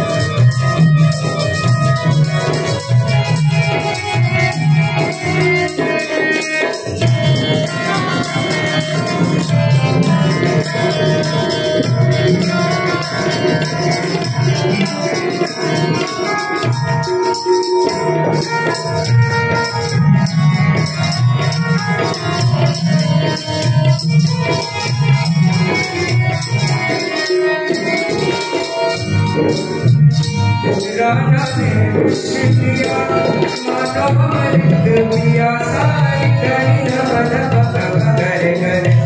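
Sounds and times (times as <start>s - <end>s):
harmonium held notes: 0.0s - 39.0s
jingling tambourine: 0.0s - 39.0s
tabla strokes: 0.0s - 39.0s.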